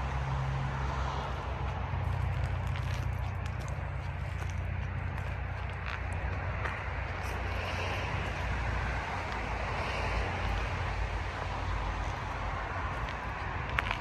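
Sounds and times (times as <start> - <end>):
rumbling outdoor background noise: 0.0 - 14.0.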